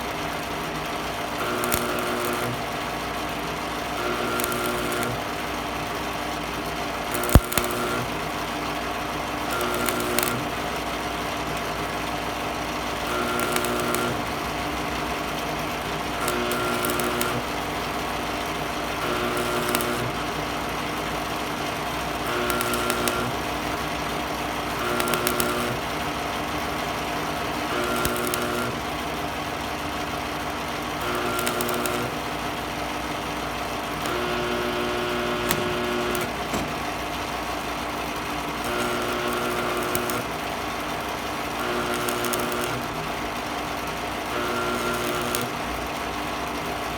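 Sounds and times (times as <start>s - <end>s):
welder humming: 1.0s - 46.9s
crackling welding arc bursts: 1.3s - 3.2s, 3.8s - 5.7s, 7.0s - 8.3s, 9.2s - 10.9s, 11.8s - 46.2s.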